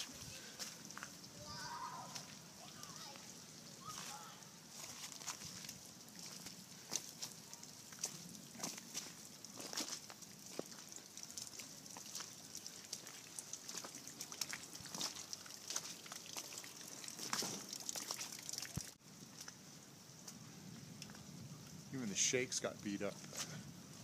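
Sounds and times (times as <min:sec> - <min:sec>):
water dripping and trickling: 0:00.0 - 0:24.0
small ticks and crackles: 0:02.1 - 0:23.6.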